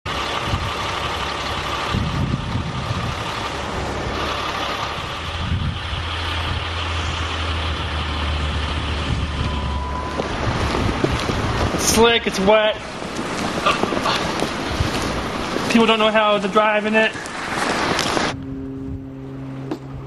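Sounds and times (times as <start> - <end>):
vehicle engine humming: 0.0 - 20.0
hiss of traffic or wind: 0.1 - 20.0.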